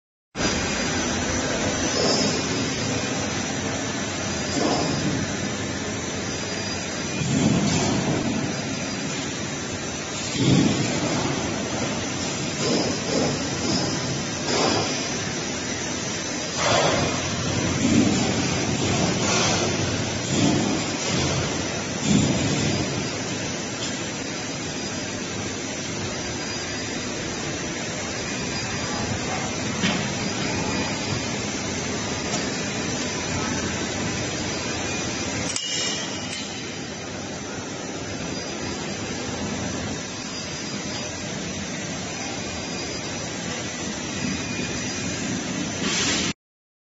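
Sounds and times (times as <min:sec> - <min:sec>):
factory machinery running: 0:00.4 - 0:46.4.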